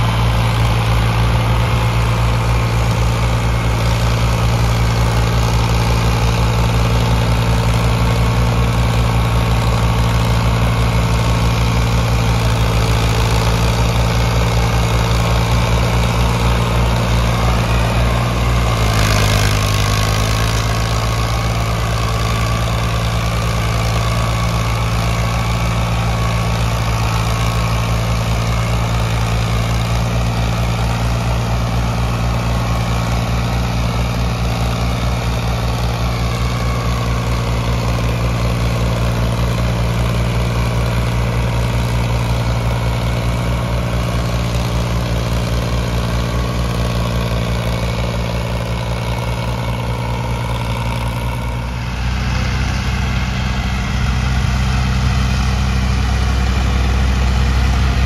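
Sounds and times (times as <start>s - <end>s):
tractor engines under heavy load: 0.0s - 58.0s.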